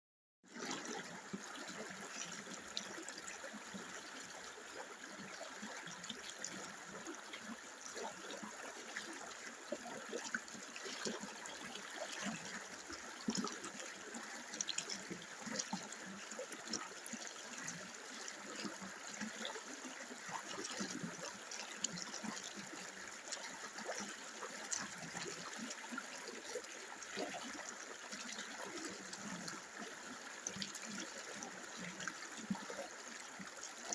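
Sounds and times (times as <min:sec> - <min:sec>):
stream water trickling over stones: 0:00.5 - 0:33.9.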